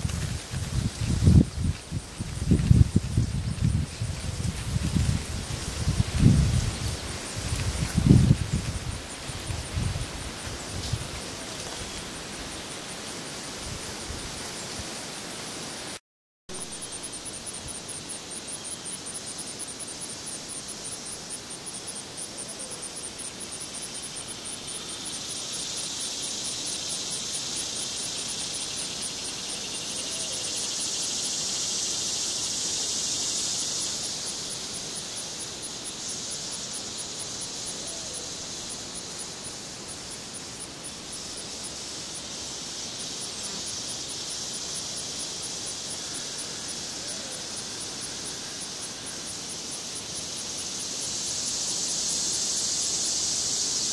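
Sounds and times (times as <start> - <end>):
insects chirping rapidly: 0.0 - 14.8, 15.4 - 53.9
insect buzz hissing: 0.0 - 53.9.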